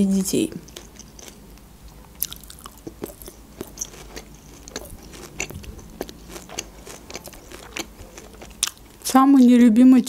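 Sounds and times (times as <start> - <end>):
chewing meat: 0.6 - 9.2.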